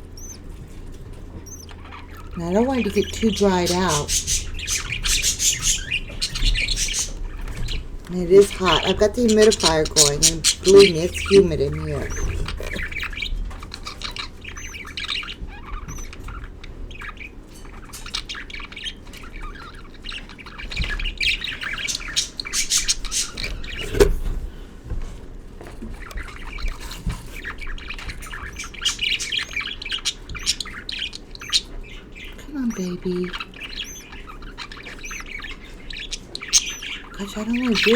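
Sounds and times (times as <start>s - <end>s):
budgerigars chirping: 0.0s - 37.9s.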